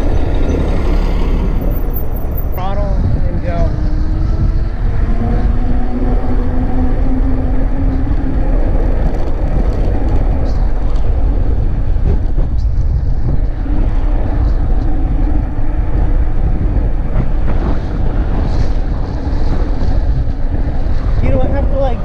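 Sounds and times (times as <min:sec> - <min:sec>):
road noise: 0:00.0 - 0:22.0
wind rushing over microphone: 0:00.0 - 0:22.0.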